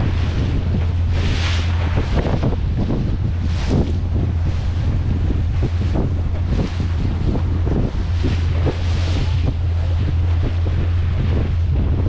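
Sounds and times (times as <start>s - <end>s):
boat engine drone: 0.0s - 12.0s
water rushing along hull: 0.0s - 12.0s
wind buffeting microphone: 0.0s - 12.0s.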